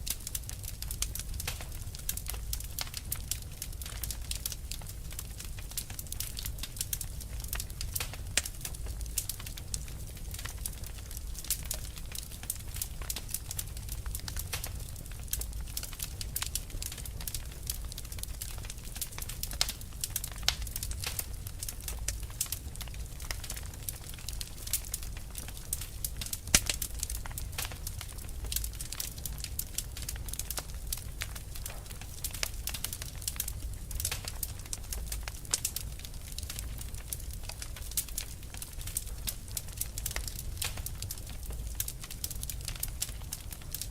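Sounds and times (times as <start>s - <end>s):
fire popping and snapping: 0.0s - 43.9s
low rumble of flames: 0.0s - 43.9s.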